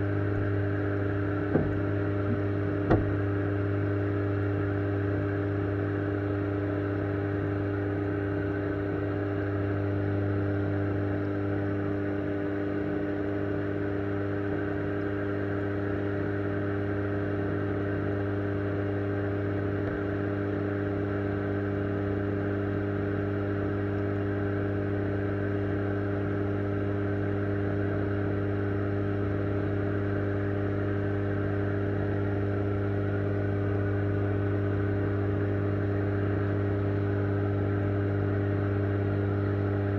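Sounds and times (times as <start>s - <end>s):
aquarium equipment hum: 0.0s - 39.9s.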